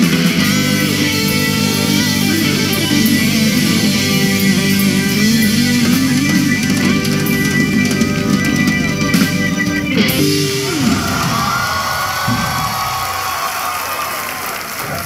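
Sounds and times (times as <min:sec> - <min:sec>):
keyboard: 0:00.0 - 0:12.3
electric guitar: 0:00.0 - 0:13.0
bass guitar: 0:00.0 - 0:13.2.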